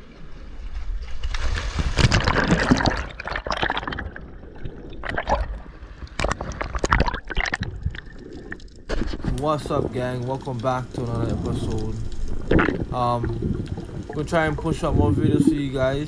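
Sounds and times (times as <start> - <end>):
water splashing and gurgling: 0.7 - 16.0
underwater bubbling rush: 1.5 - 16.0.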